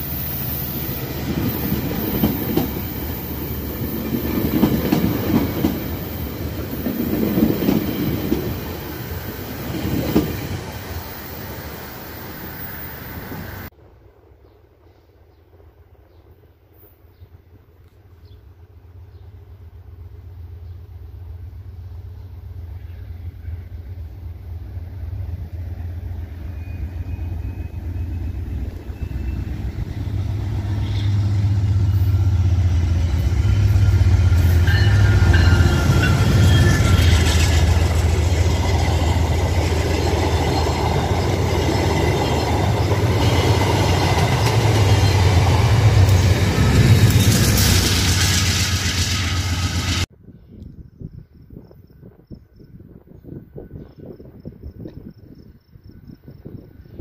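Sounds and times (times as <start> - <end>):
train passing with low rumble: 0.0 - 57.0.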